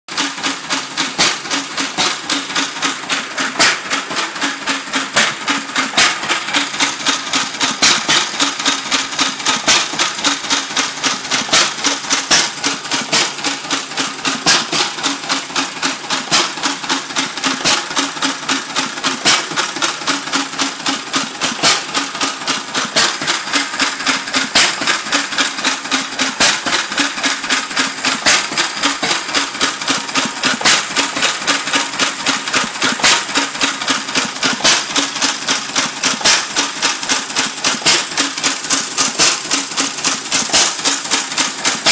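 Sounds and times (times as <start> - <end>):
stationary engine knocking: 0.1 - 41.9.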